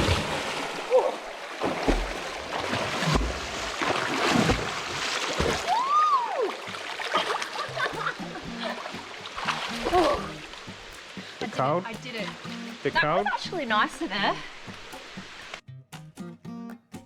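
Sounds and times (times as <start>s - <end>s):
running water: 0.0s - 15.6s
water splashing and sloshing: 0.0s - 15.6s.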